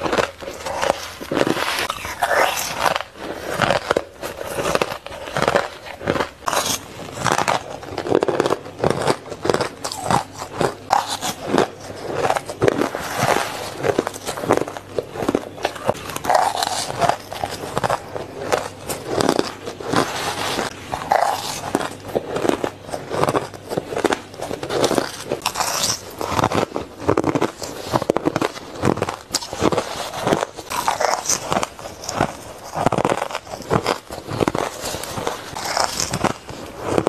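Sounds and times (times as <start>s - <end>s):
crunching ice being chewed: 0.0s - 37.0s.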